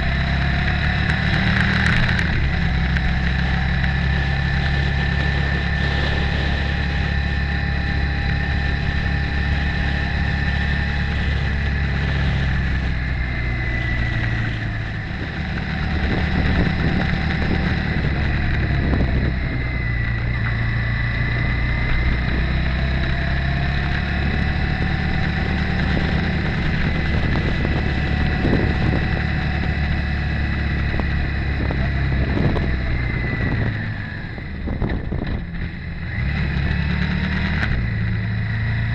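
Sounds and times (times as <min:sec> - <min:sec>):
motorcycle engine running: 0:00.0 - 0:38.9
steady high whine: 0:00.0 - 0:38.9.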